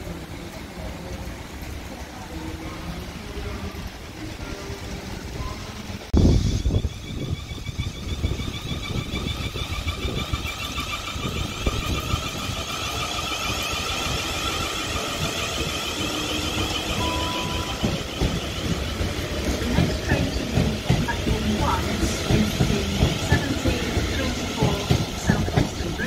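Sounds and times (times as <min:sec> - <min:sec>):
train traction motor whine: 0:00.0 - 0:26.0
wheels rumbling on rail: 0:00.0 - 0:26.0.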